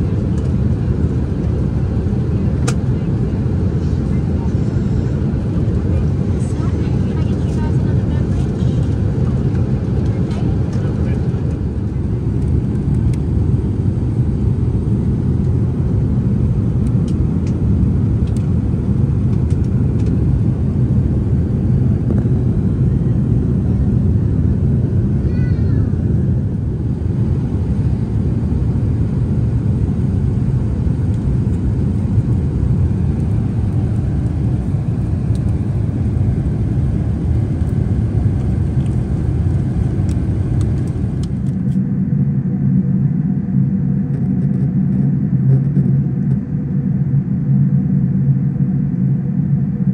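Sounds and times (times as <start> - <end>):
airplane cabin low rumble: 0.0 - 49.9.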